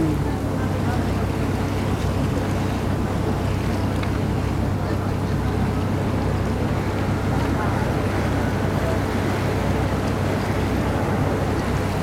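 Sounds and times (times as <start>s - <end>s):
boat engine droning: 0.0s - 12.0s
water rushing: 0.0s - 12.0s.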